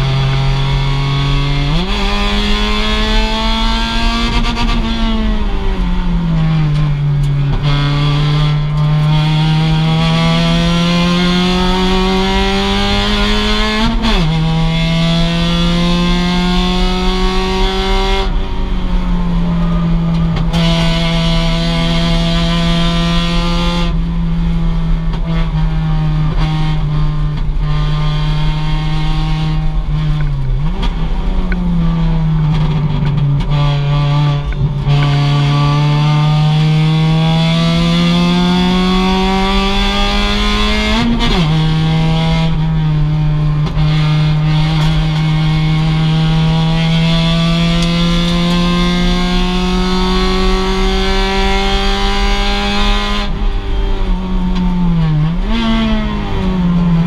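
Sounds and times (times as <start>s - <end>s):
car engine revving high: 0.0s - 57.0s.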